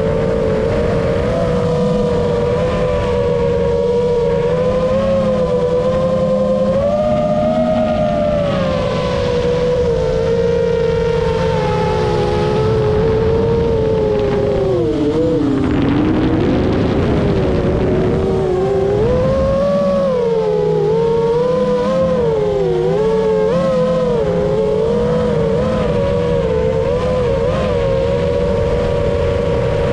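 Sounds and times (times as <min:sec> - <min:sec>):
continuous low rumble: 0:00.0 - 0:29.9
motor vehicle engine whine: 0:00.0 - 0:29.9.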